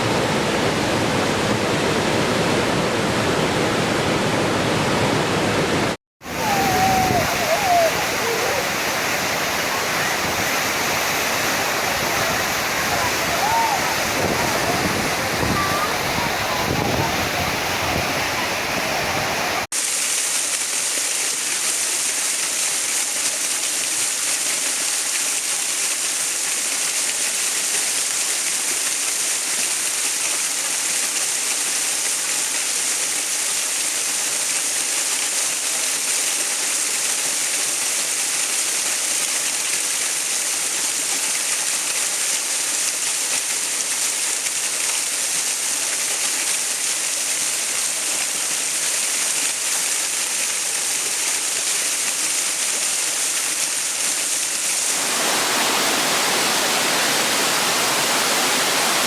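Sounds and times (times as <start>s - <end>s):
rushing water hiss: 0.0s - 59.0s.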